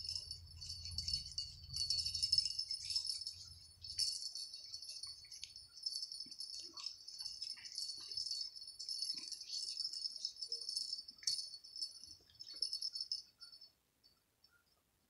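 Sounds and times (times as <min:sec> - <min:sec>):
bright jingling bells: 0:00.0 - 0:14.6.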